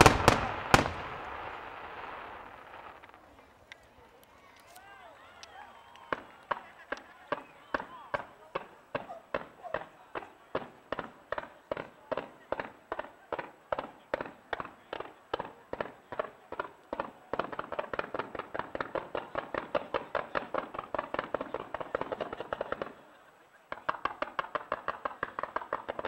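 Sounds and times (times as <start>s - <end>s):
fireworks firing rapid reports: 0.0s - 3.3s, 6.2s - 26.0s.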